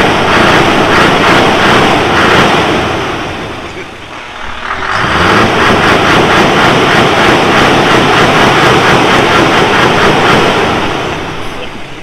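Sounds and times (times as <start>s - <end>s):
lorry engine and exhaust: 0.0s - 12.0s.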